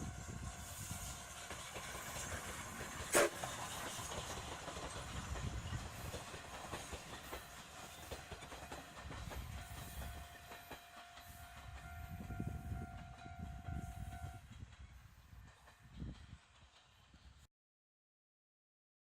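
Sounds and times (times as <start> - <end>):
steam train rumbling past: 0.0 - 17.5
wheels clicking over rail joints: 1.2 - 17.1.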